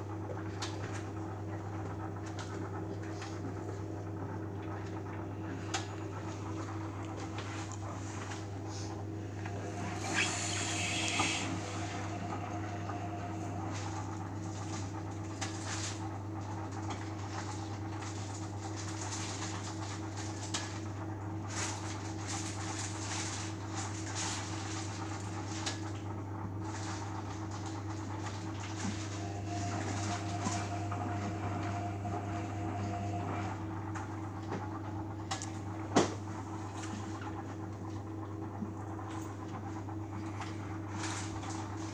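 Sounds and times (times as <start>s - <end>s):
washing machine hum: 0.0s - 41.9s.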